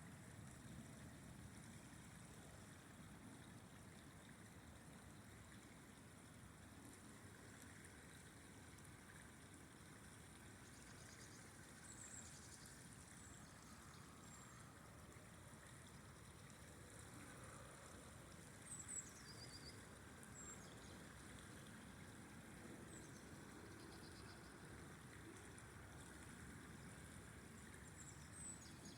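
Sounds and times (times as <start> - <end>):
flowing river: 0.0 - 28.9.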